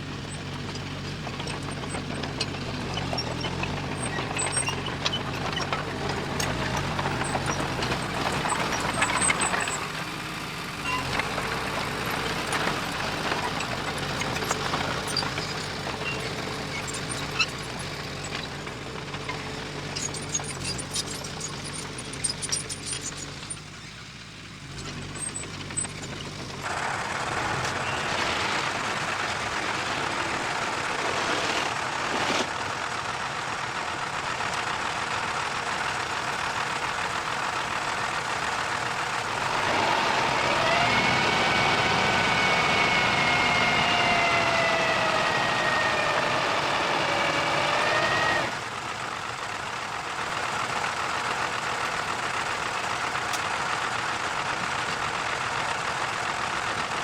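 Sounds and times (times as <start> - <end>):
diesel machinery with clatter: 0.0 - 57.0.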